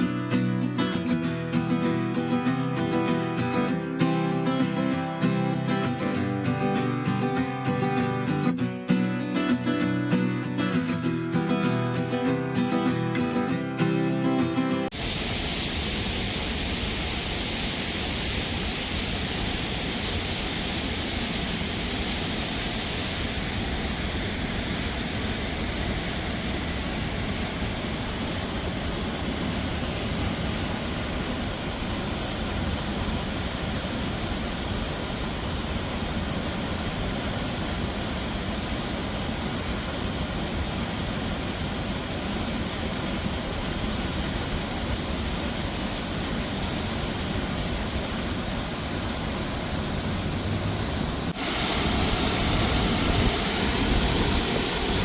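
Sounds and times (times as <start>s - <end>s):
flooded river rushing: 0.0s - 55.0s.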